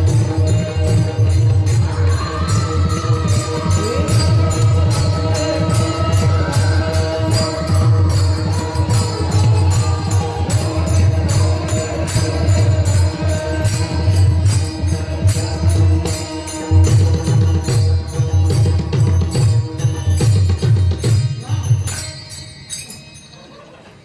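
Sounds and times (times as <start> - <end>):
instrumental drone: 0.0 - 20.4
jingling percussion: 0.0 - 24.0.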